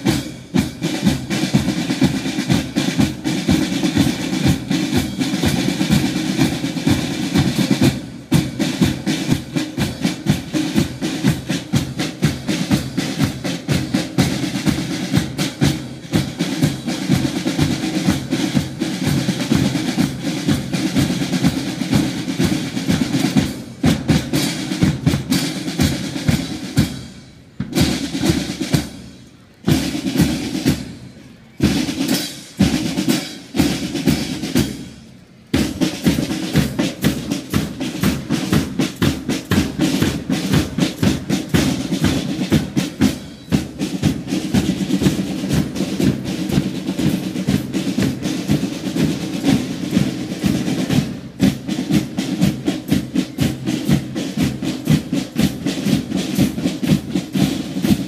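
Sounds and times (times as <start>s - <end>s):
marching band drums: 0.0s - 58.0s.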